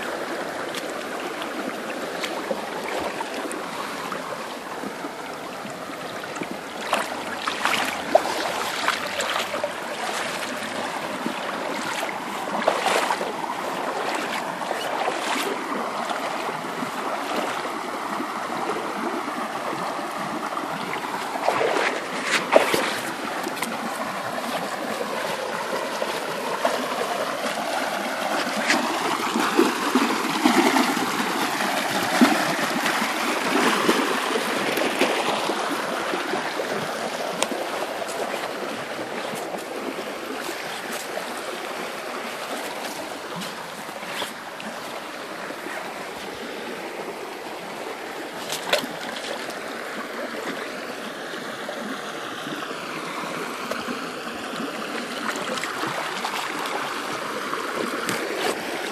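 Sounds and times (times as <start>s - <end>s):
creek water running over rocks: 0.0s - 58.9s.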